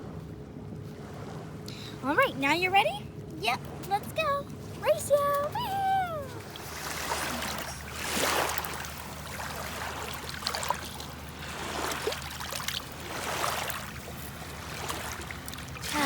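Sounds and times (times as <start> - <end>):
shallow water sloshing: 0.0 - 16.0.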